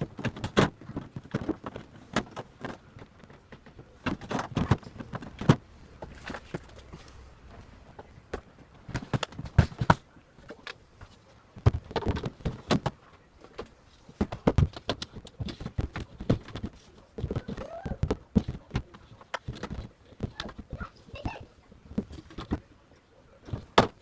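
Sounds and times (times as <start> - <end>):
knocks and clicks of handling: 0.0 - 22.8.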